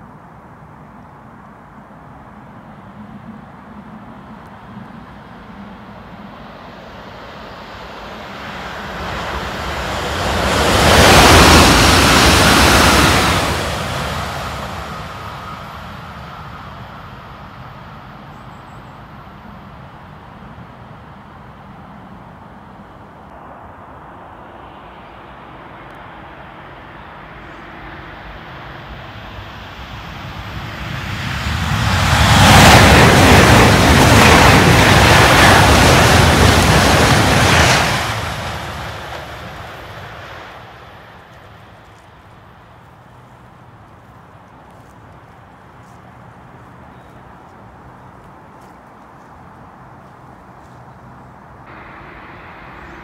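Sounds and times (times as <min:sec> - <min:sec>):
high-speed train passing: 0:00.0 - 0:53.0.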